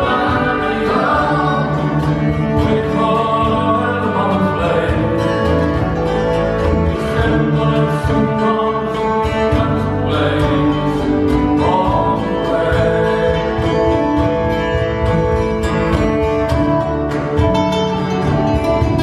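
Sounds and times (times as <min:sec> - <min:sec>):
strummed mandolin and guitar: 0:00.0 - 0:19.0.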